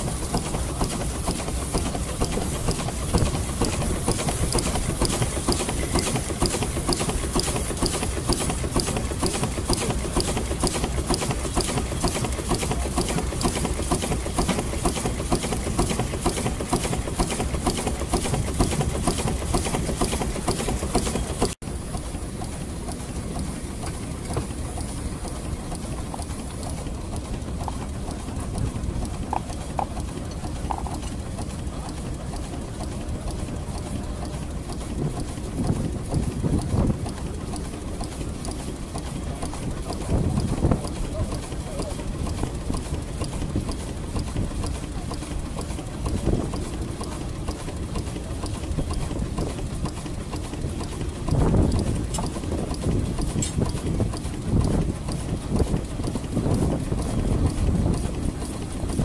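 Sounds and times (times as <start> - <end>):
steam engine running: 0.0 - 59.0.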